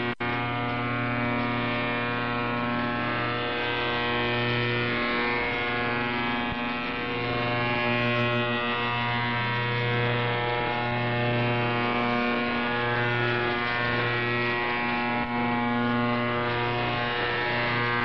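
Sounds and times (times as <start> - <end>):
loud shortwave radio buzzer: 0.0 - 18.0.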